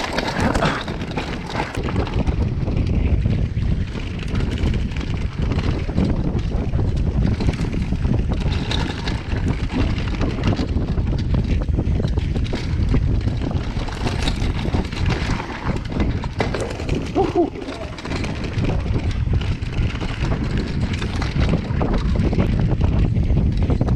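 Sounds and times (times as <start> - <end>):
bike clicking and rattling: 0.0 - 23.9
tyres rumbling on dirt trail: 0.0 - 23.9
wind buffeting microphone: 0.0 - 23.9.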